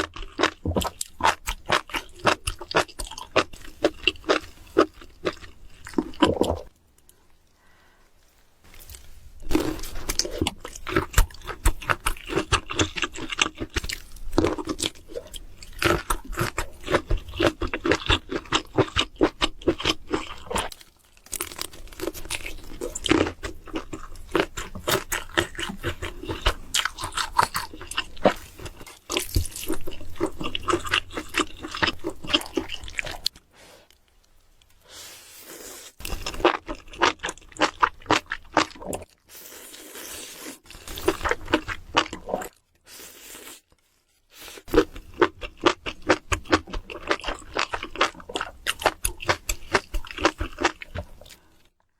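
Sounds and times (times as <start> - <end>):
crunchy chewing: 0.0 - 7.2, 8.7 - 34.4, 35.2 - 51.8.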